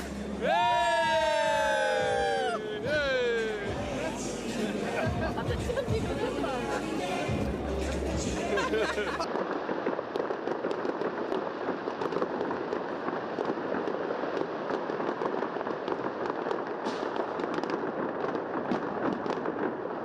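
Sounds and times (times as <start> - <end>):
fireworks and firecrackers popping: 0.0 - 20.0.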